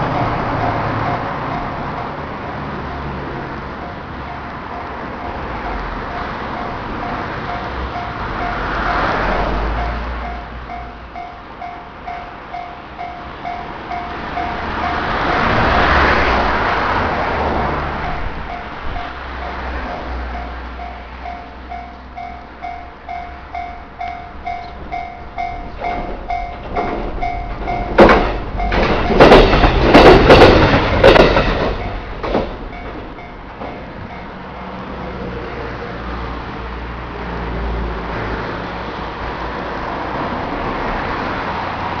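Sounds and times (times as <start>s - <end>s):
level crossing warning bell: 0.0s - 35.8s
wheels clacking on rail joints: 0.0s - 36.6s
train running noise: 0.0s - 42.0s.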